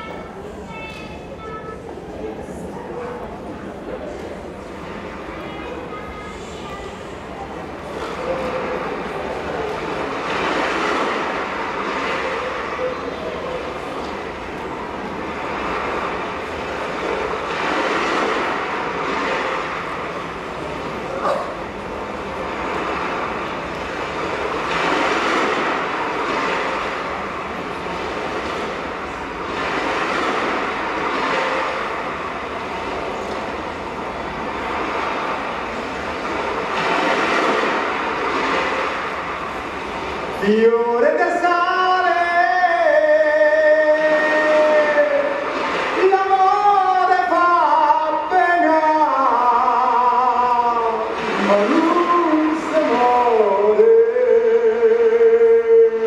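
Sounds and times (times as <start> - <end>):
surf over speakers: 0.0 - 56.0.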